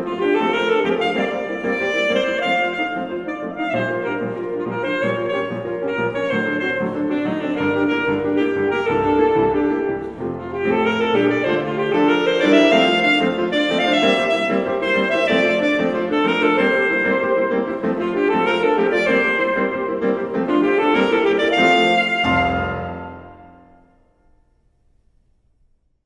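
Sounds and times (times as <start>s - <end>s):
alto saxophone solo: 0.0s - 24.0s
piano accompaniment: 0.0s - 24.7s.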